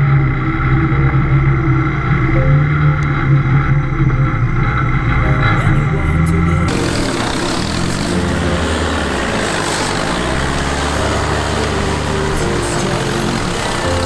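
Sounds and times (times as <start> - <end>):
buggy engine running under load: 0.0 - 14.0.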